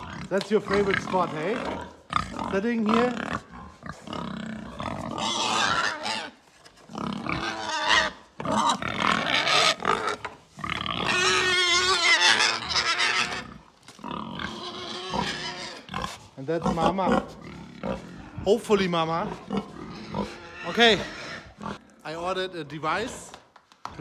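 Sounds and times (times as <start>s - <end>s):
pigs grunting and squealing: 0.0s - 23.2s.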